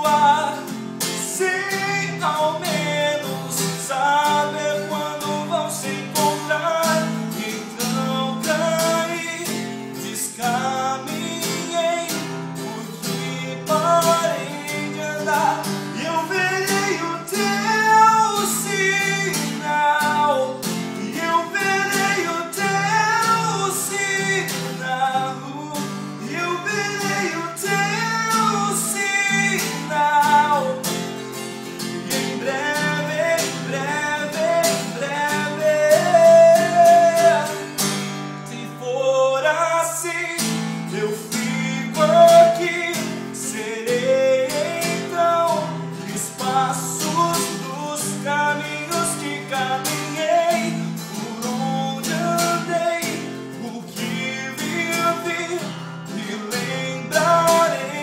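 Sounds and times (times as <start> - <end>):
acoustic guitar strumming: 0.0 - 58.0
man singing: 0.0 - 58.0.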